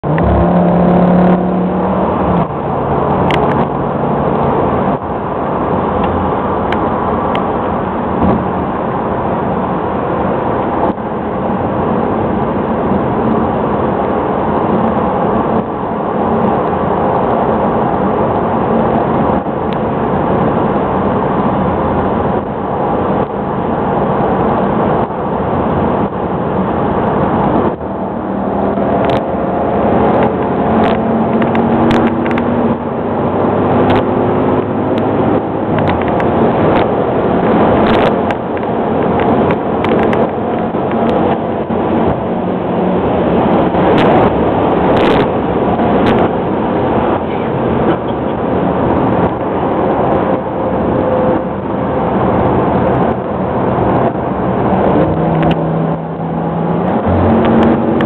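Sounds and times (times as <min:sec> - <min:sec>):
car engine accelerating: 0:00.0 - 0:58.0
wind and road noise: 0:00.0 - 0:58.0.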